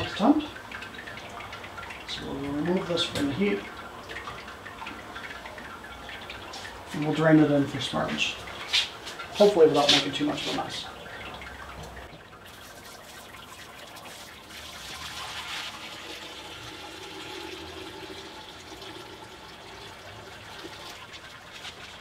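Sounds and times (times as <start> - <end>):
water pouring and splashing: 0.0 - 22.0.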